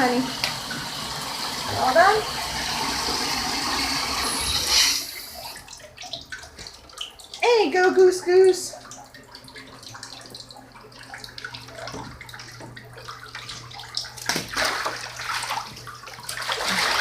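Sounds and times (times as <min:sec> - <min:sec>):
water sloshing in bathtub: 0:00.0 - 0:17.0.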